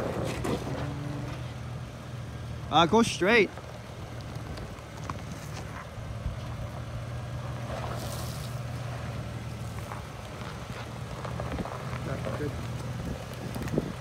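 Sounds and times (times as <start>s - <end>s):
truck engine running low: 0.0s - 14.0s.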